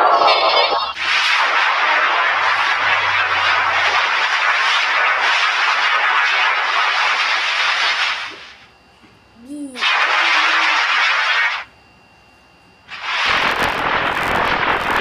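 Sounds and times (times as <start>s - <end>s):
distorted rushing noise: 0.0s - 8.6s, 9.8s - 11.7s, 12.9s - 15.0s.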